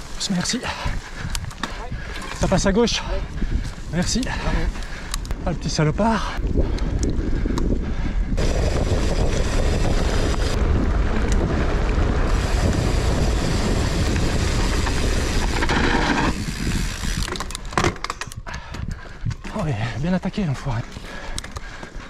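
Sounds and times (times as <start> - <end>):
bike tyres rumbling on dirt: 0.0 - 22.0
wind buffeting microphone: 0.0 - 22.0.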